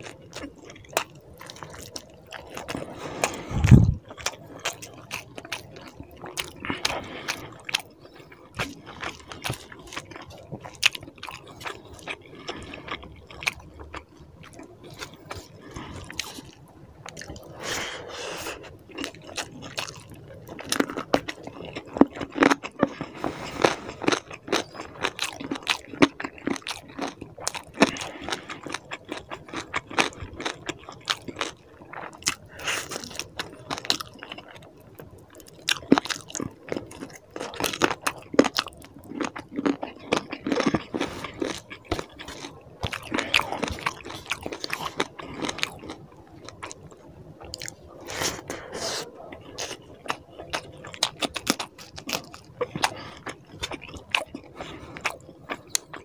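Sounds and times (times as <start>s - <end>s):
chewing and mouth smacks: 0.0s - 17.6s, 18.4s - 56.0s.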